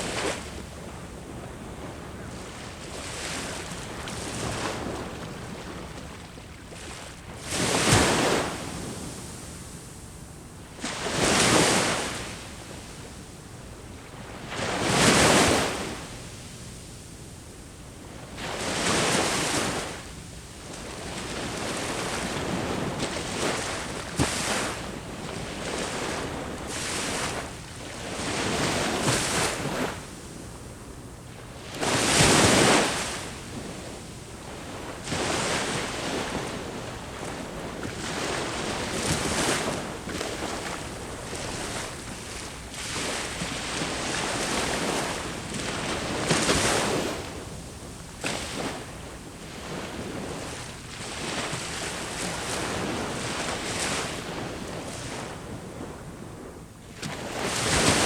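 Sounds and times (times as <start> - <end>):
ocean waves breaking on shore: 0.0 - 17.1, 18.1 - 58.0.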